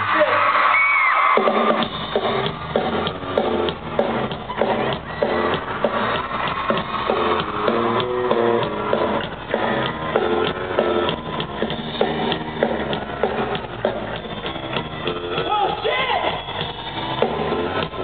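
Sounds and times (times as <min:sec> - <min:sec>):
live rock band playing: 0:01.2 - 0:18.0
drum hits: 0:01.4 - 0:16.0.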